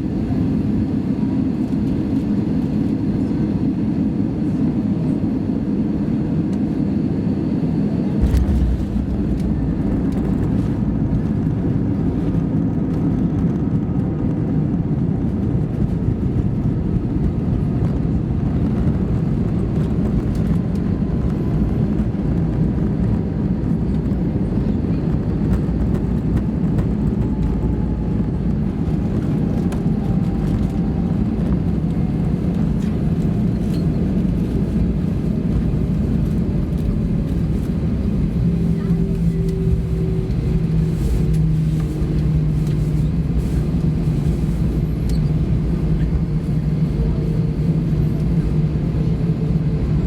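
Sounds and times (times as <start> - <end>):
airplane cabin engine rumble: 0.0 - 50.0.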